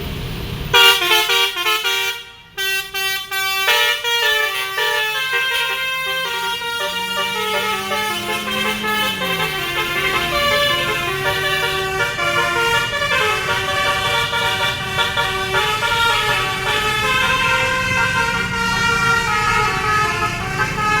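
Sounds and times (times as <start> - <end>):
musical bus horn playing a tune: 0.7 - 21.0.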